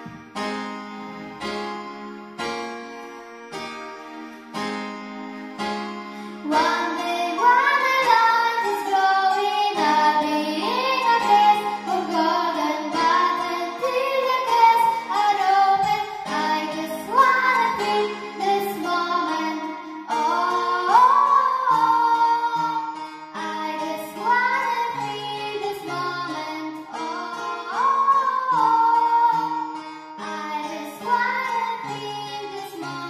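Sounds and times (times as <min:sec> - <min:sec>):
electronic keyboard chords: 0:00.0 - 0:33.0
girl singing into microphone: 0:06.2 - 0:33.0.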